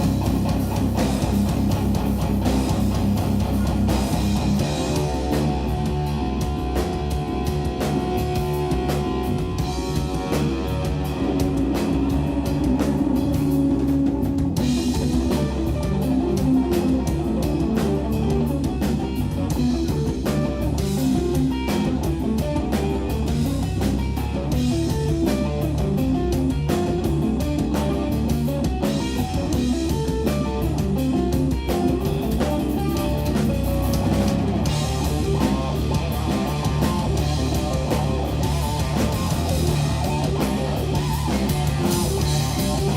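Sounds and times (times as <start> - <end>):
bass guitar: 0.0 - 42.9
drum kit: 0.0 - 42.9
electric guitar lines: 0.0 - 42.9.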